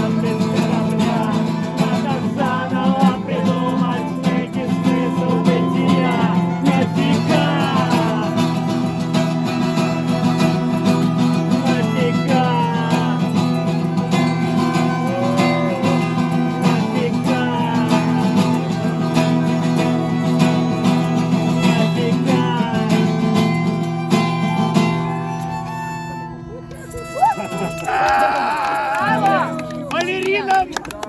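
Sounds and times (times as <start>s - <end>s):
acoustic guitar music: 0.0s - 30.8s.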